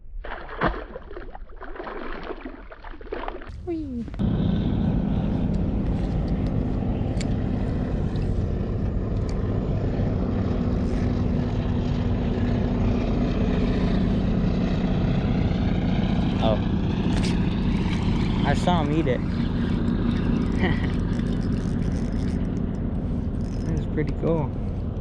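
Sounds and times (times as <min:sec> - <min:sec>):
electric trolling motor humming: 0:03.5 - 0:25.0.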